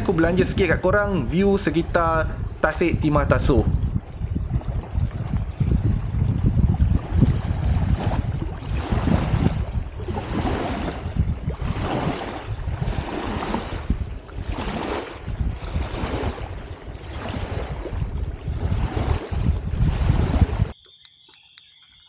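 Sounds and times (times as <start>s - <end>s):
lake waves lapping on shore: 0.0s - 20.8s
wind rumbling on microphone: 0.0s - 20.8s.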